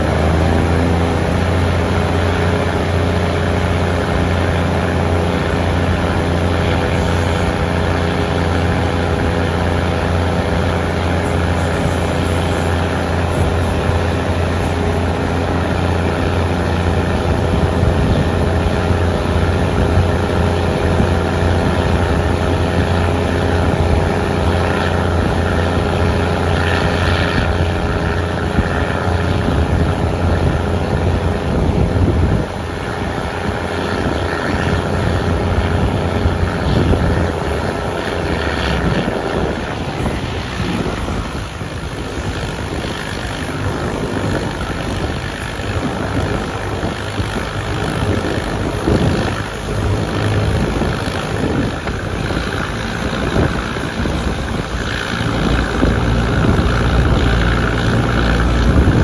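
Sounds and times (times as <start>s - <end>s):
diesel train running: 0.0s - 59.0s.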